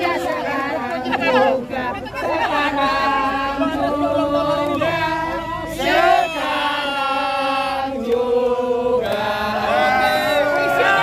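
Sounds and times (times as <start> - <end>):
crowd singing birthday song: 0.0 - 11.0.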